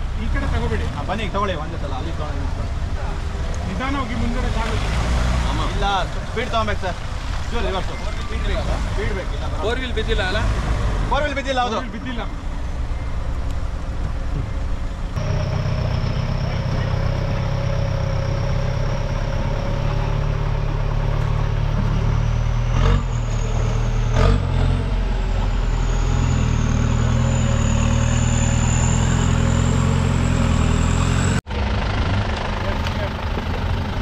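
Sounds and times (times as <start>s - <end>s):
off-road vehicle engine running: 0.0s - 34.0s.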